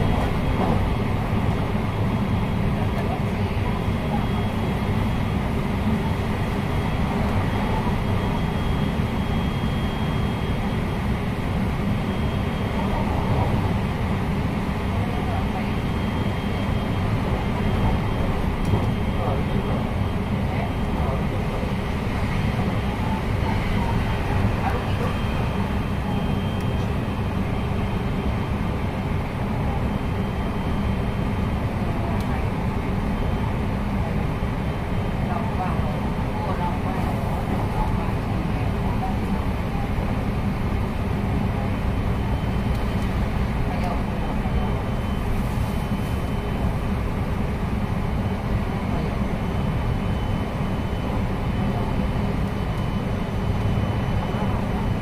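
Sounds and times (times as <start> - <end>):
train wheels rumbling on rail: 0.0 - 9.2, 10.5 - 55.0.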